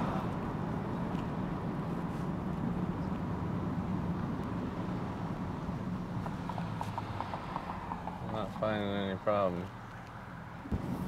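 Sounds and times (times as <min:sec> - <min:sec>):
road hum: 0:00.0 - 0:11.0.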